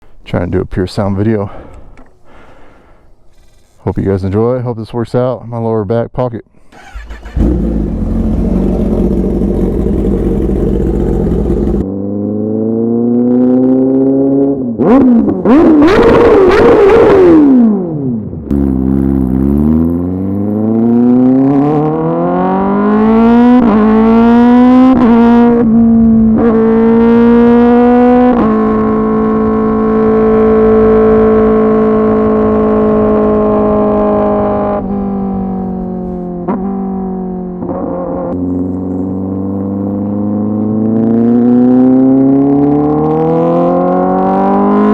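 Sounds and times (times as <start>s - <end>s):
motorcycle engine revving: 6.8s - 44.9s.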